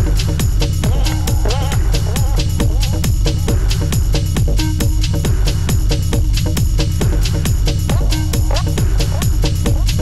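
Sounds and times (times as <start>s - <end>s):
bass line: 0.0s - 10.0s.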